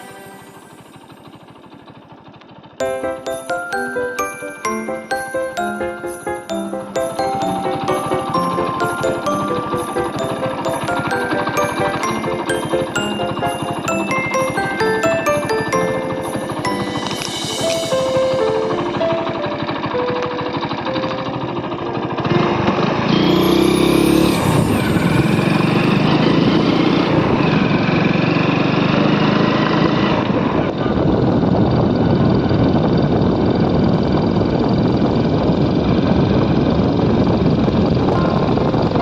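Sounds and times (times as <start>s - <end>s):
motorbike engine: 0.0s - 39.0s.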